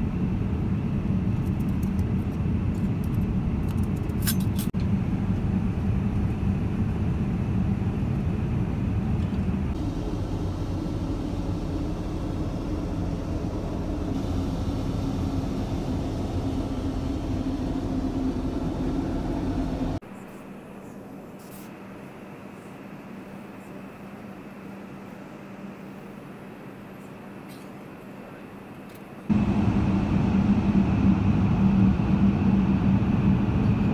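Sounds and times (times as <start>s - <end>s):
airliner cabin noise: 0.0s - 20.0s, 21.2s - 33.9s.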